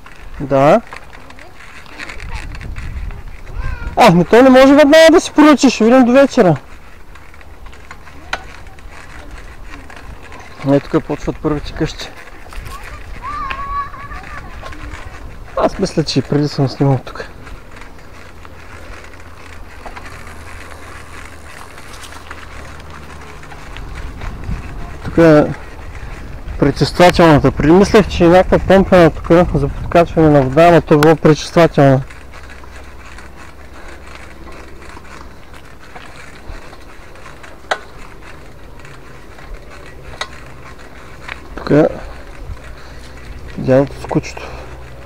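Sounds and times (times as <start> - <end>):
bicycle tyres rolling on asphalt: 0.0 - 45.0
bike rattling click: 0.0 - 45.0.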